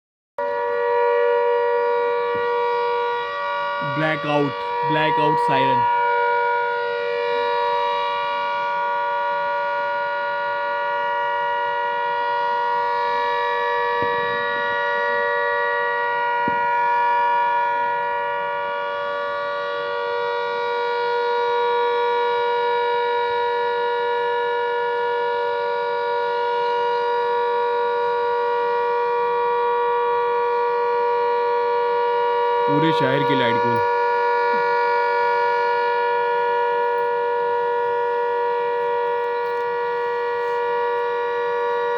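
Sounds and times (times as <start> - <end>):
air-raid siren blast: 0.4 - 41.9.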